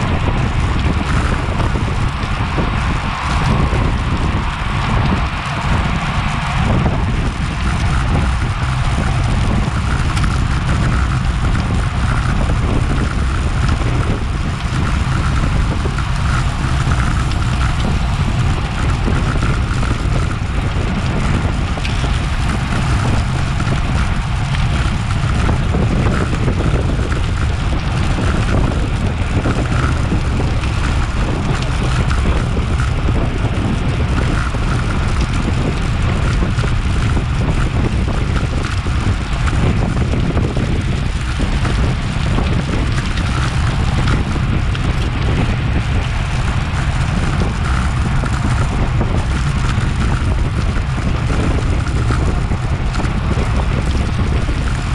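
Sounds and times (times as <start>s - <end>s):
bicycle road noise: 0.0s - 54.9s
wind buffeting microphone: 0.0s - 54.9s.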